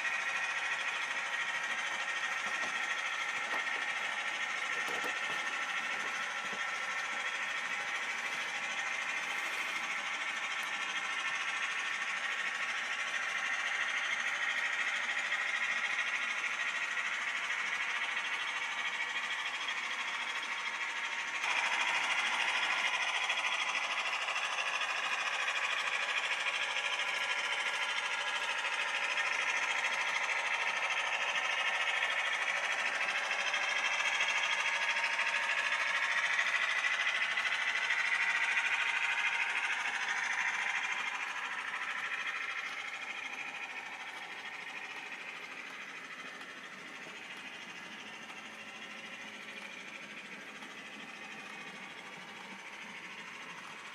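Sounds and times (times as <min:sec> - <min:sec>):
wheels running on rails: 0:00.0 - 0:53.9.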